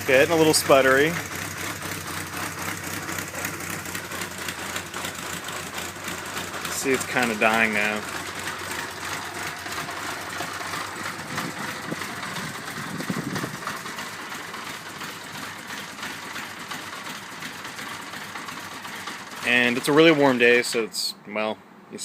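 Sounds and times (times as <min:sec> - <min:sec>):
motorcycle engine idling and sputtering: 0:00.0 - 0:21.1.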